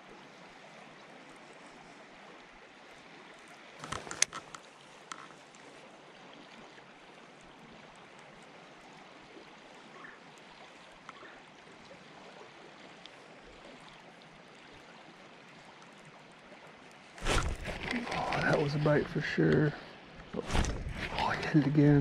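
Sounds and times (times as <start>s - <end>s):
creek current flowing: 0.0s - 22.0s.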